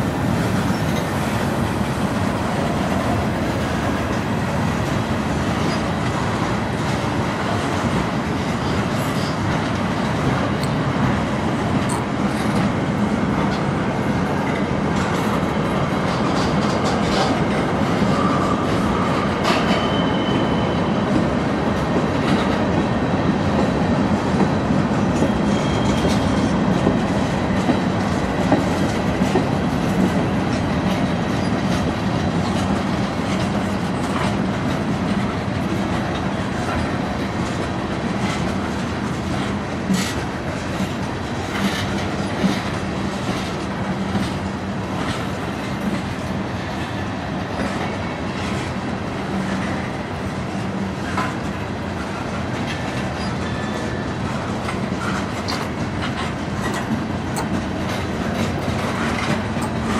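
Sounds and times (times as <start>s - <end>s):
train wheels rumbling on rails: 0.0s - 59.9s
wheels clacking over rail joints: 0.1s - 23.8s, 24.4s - 59.9s.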